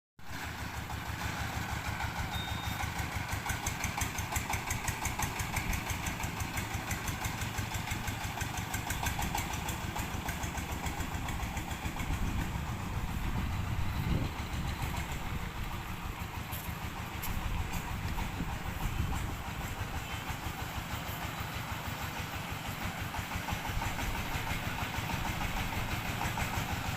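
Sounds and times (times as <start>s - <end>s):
diesel engine running: 0.2s - 26.9s.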